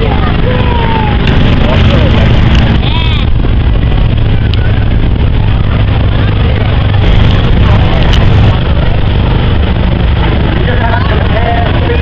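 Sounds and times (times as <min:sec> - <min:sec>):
people talking faintly: 0:00.0 - 0:12.0
propeller plane engine drone: 0:00.0 - 0:12.0.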